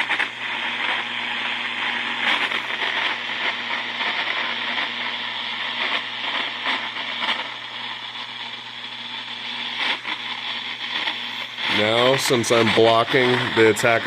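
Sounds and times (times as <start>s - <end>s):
faint crackles: 0.0s - 14.0s
radio static hiss: 0.0s - 14.0s.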